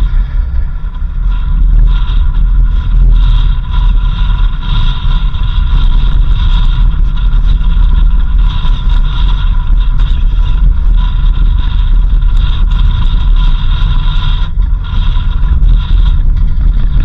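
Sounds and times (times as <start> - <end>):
high steady whine: 0.0 - 17.0
vehicle engine and road rumble: 0.0 - 17.0.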